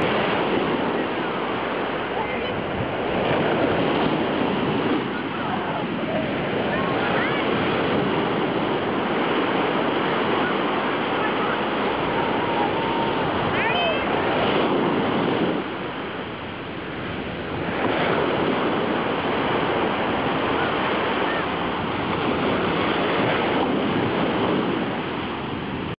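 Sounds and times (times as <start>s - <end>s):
small waves breaking on beach: 0.0s - 26.0s.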